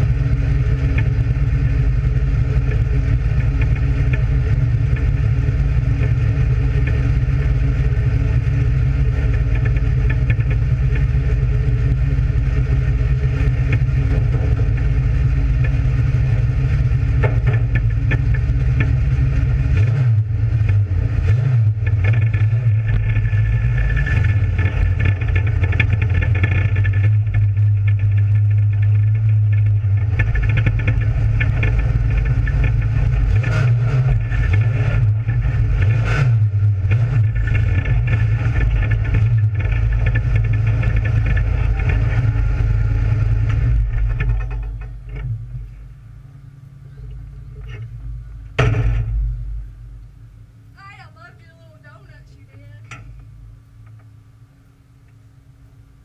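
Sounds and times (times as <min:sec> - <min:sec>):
race car engine running: 0:00.0 - 0:56.0.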